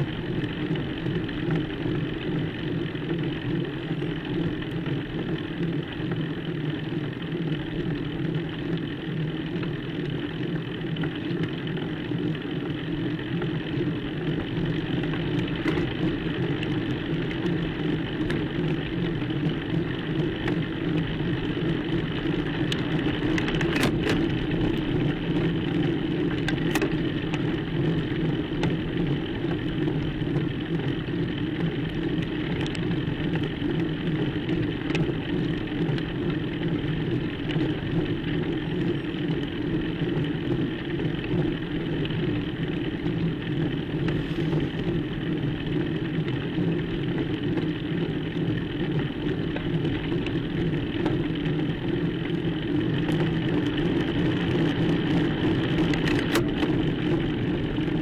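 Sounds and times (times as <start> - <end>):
bicycle rolling road noise: 0.0 - 58.0.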